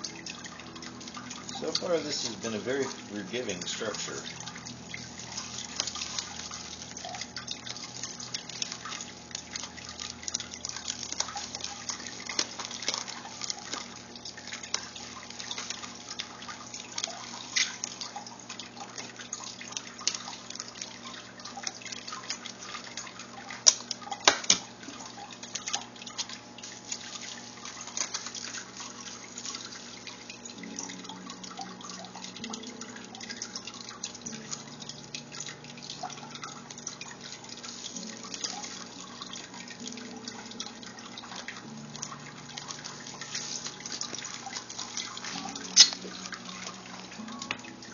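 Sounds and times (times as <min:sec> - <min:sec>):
bubble wrap and straws crinkling: 0:00.0 - 0:47.9
sharp plastic crackles: 0:00.0 - 0:47.9.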